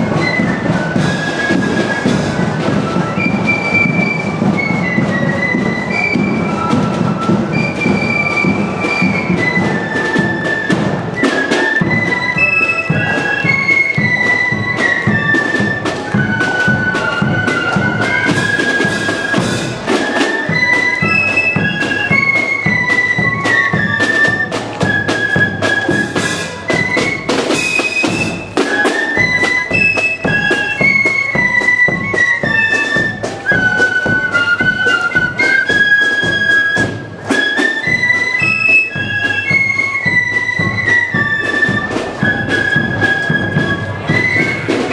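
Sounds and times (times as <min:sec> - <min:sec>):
flutes playing melody: 0:00.0 - 0:44.9
snare drums beating march: 0:00.0 - 0:44.9.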